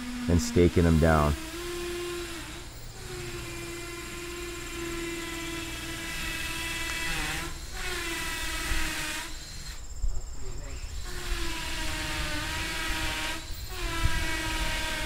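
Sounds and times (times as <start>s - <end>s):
steady mechanical whine: 0.0s - 15.0s.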